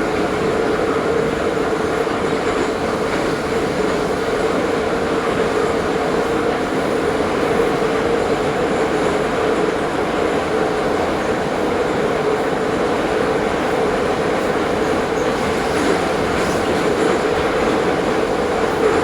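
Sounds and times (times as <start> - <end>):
metro train wheels rumbling on rail: 0.0 - 19.0.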